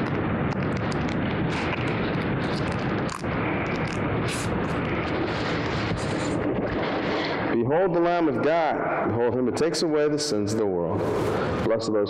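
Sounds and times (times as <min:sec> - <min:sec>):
crackling static: 0:00.0 - 0:12.0.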